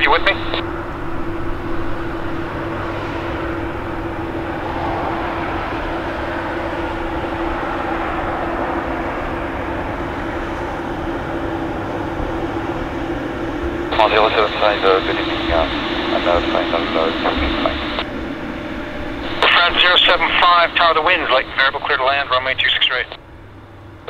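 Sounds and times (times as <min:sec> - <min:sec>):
jet engine rushing noise: 0:00.0 - 0:23.7
low hum: 0:00.0 - 0:24.0.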